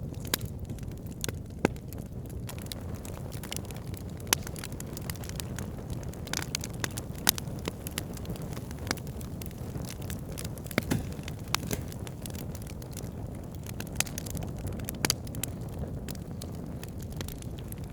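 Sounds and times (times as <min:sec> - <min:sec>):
burning wood crackling and popping: 0:00.0 - 0:17.9
low rumble of flames: 0:00.0 - 0:17.9.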